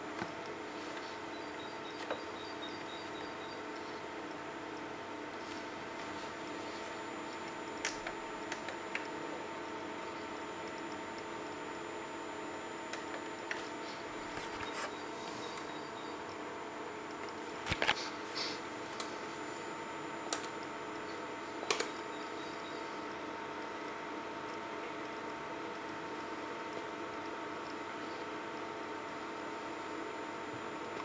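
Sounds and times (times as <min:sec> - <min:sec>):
cooling fan humming: 0:00.0 - 0:31.0.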